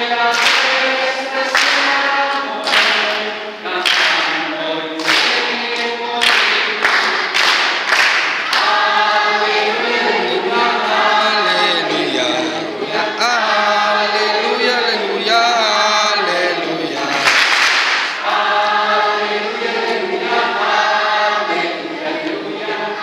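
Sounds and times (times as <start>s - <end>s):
children and adults singing: 0.0s - 23.0s.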